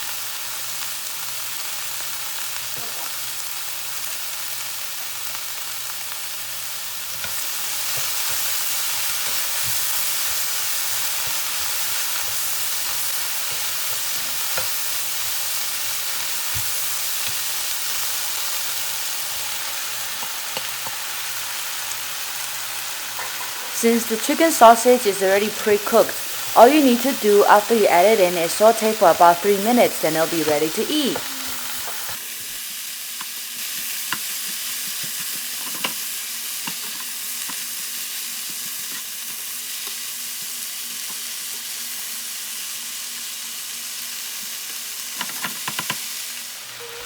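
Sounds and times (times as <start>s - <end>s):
vegetables sizzling in a frying pan: 0.0s - 47.0s.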